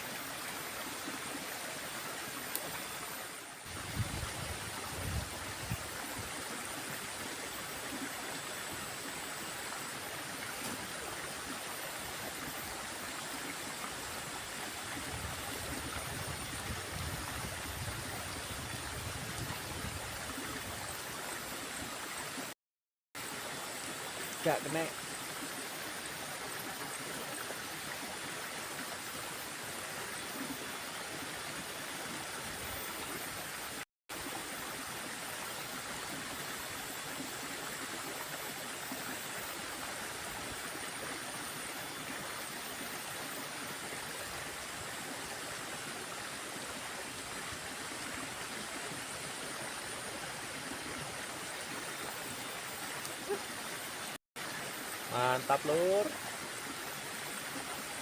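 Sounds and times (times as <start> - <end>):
stream water flowing: 0.0 - 22.6, 23.2 - 58.0.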